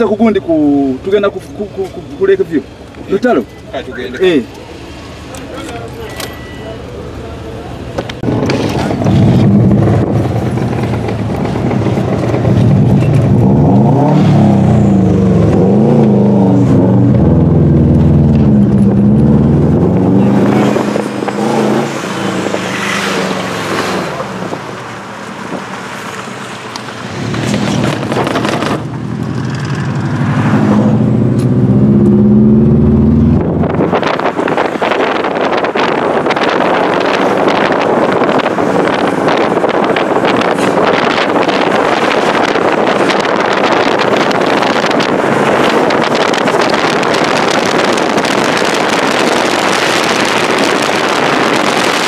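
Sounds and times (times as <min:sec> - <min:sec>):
car engine revving: 0:08.1 - 0:52.0.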